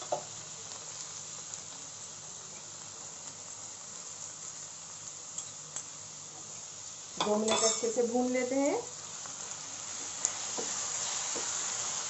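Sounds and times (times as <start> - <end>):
mince and onion sizzling in pan: 0.0 - 12.0.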